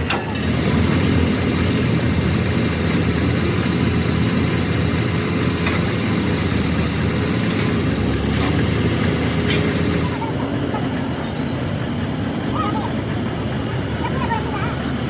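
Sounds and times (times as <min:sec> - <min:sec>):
engine running with low rumble: 0:00.0 - 0:15.0.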